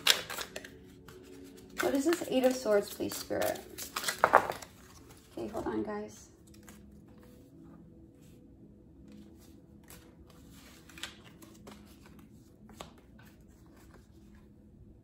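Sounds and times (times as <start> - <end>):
cards rustling: 0.0 - 5.8, 6.4 - 7.7, 9.0 - 14.5.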